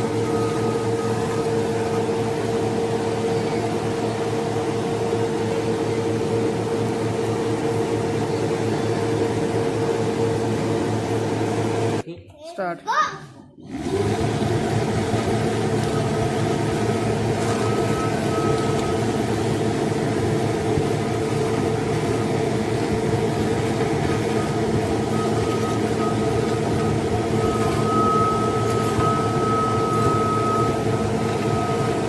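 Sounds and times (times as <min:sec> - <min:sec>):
vacuum cleaner motor whining: 0:00.0 - 0:12.0, 0:13.6 - 0:32.0.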